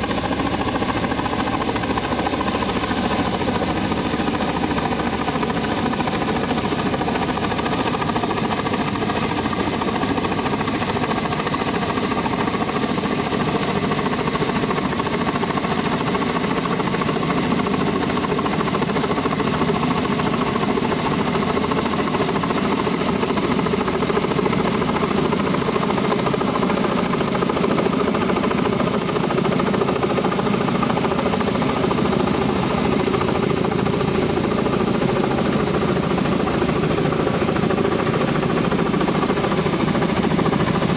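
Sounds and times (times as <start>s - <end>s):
helicopter rotor and turbine: 0.0s - 40.9s.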